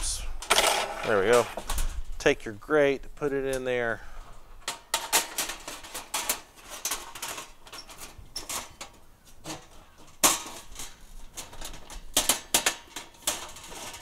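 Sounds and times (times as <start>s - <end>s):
metal grate clicks and scrapes: 0.4s - 2.3s, 4.6s - 14.0s.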